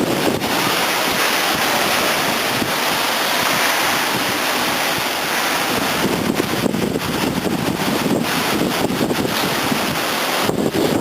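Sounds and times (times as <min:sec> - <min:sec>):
heavy rain and wind hiss: 0:00.0 - 0:11.0
wind gusts buffeting microphone: 0:00.0 - 0:11.0.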